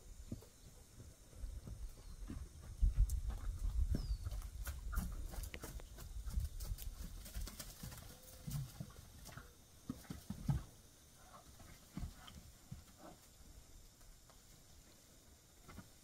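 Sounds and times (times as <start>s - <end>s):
hooves thudding on dry dirt: 0.0s - 16.0s.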